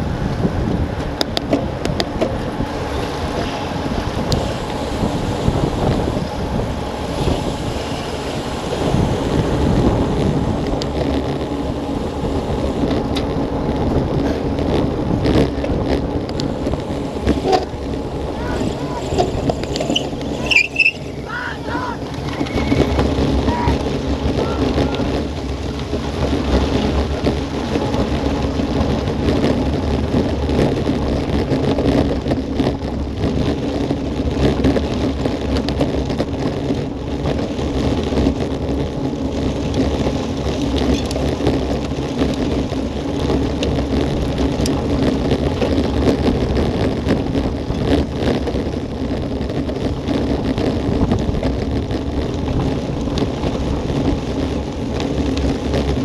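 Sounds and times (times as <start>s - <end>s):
wind rushing over microphone: 0.0s - 56.0s
tyres crackling over gravel: 0.3s - 56.0s.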